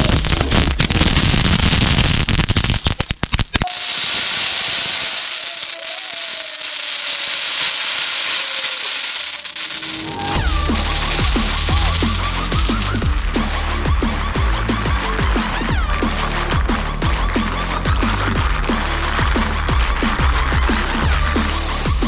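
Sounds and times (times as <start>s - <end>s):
snap crackers bursting: 0.0s - 22.0s.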